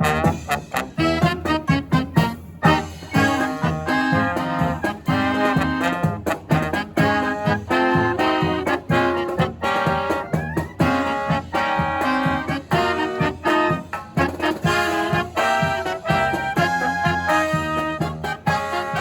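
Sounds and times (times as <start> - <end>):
brass marching band playing: 0.0 - 19.0.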